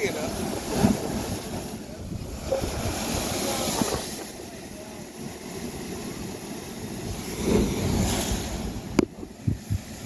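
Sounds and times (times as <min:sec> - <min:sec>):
sea water surging and spraying: 0:00.0 - 0:10.0.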